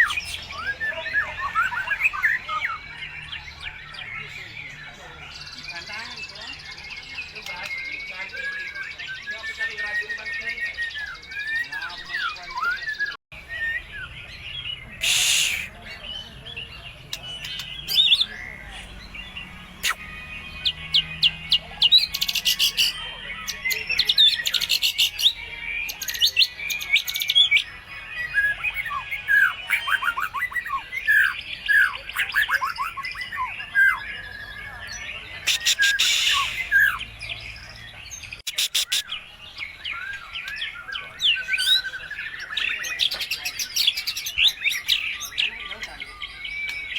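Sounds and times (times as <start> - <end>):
songbird singing trills and whistles: 0.0 - 46.9.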